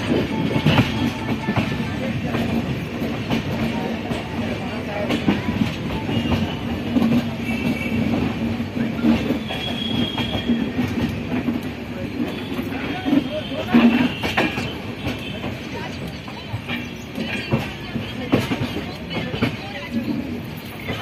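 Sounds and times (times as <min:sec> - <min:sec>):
train wheels rumbling on rails: 0:00.0 - 0:21.0
wheels clacking over rail joints: 0:00.0 - 0:21.0.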